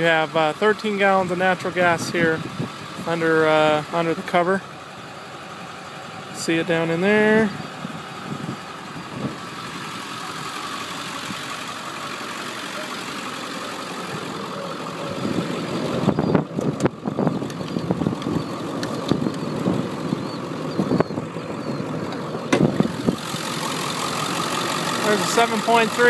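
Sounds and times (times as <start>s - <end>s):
diesel engine idling: 0.0s - 26.0s
engine knocks and clatters: 0.0s - 26.0s.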